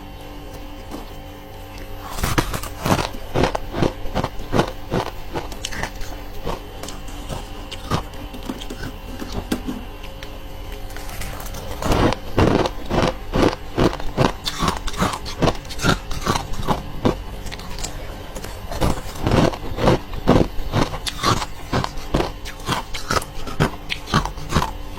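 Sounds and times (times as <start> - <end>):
ice being bitten and chewed: 0.3 - 24.9.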